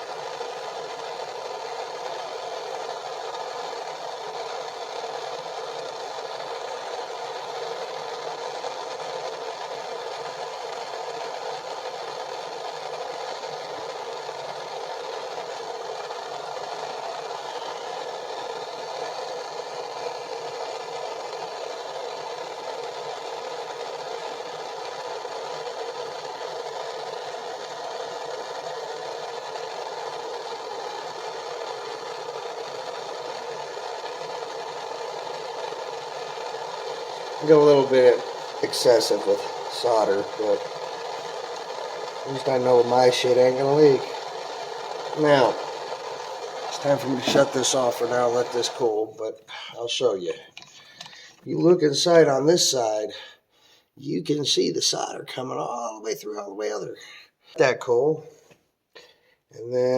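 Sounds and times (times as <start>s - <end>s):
torch flame hissing: 0.0s - 53.7s.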